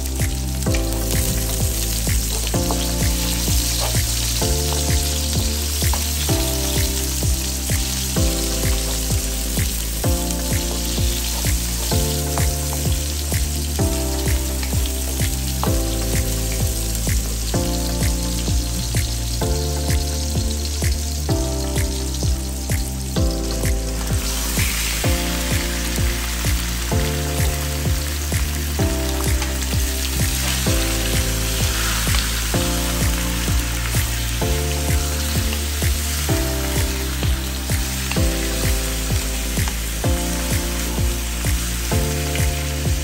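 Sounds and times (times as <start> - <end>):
music with a steady beat: 0.0 - 43.0
onions sizzling in hot oil: 0.0 - 43.0.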